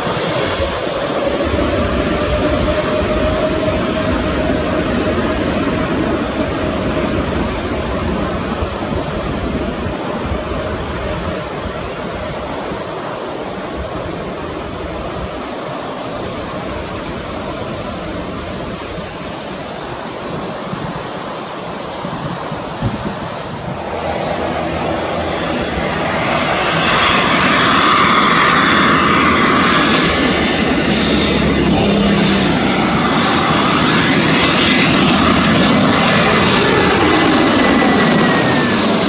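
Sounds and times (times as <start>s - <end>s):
jet airliner roar at takeoff: 0.0s - 39.0s.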